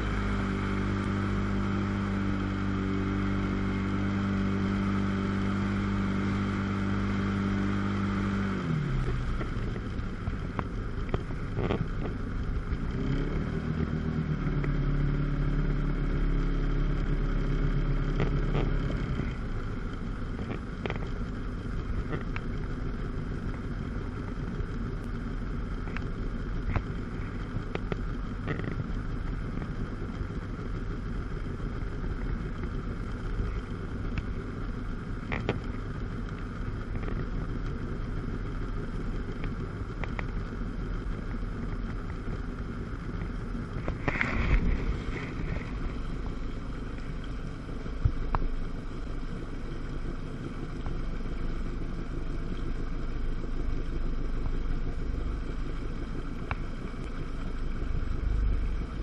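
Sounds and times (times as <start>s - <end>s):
watercraft engine revving: 0.0s - 59.0s
wind: 0.0s - 59.0s.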